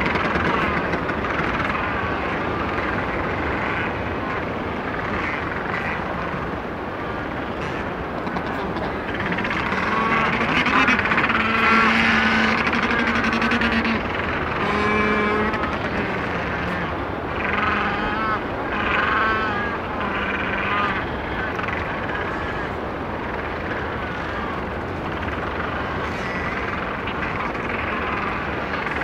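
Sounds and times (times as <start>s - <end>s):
distant sea: 0.0s - 29.0s
drawn-out penguin calls: 0.0s - 29.0s
penguin colony calling: 0.0s - 29.0s.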